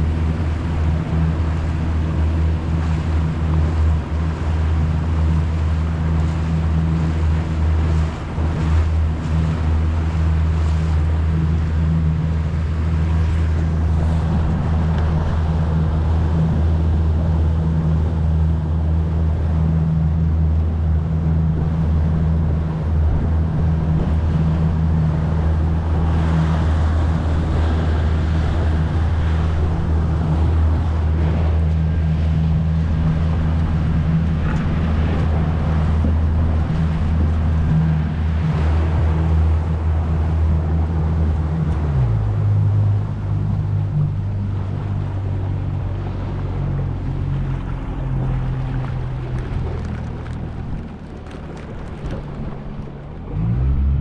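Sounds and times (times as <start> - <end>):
motorboat engine: 0.0 - 54.0
water and wind hiss: 0.0 - 54.0.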